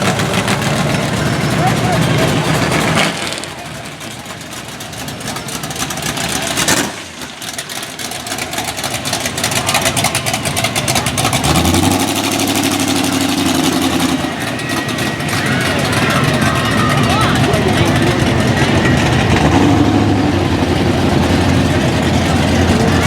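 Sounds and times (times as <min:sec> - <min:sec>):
car engines driving past: 0:00.0 - 0:23.0
deeper engine note: 0:00.0 - 0:23.0.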